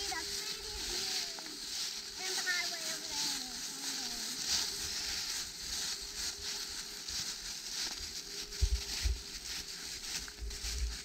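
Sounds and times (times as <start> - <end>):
footsteps in dry leaves: 0.0 - 11.0.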